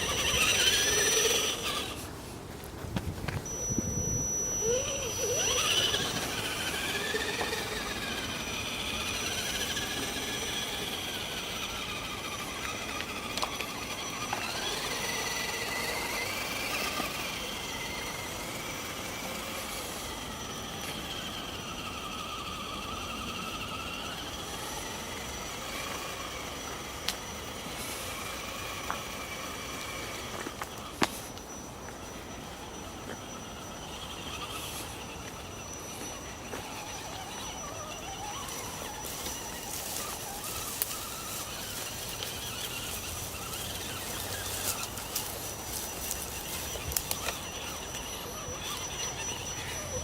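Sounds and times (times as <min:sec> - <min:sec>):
electric motor and gears whining: 0:00.0 - 0:50.0.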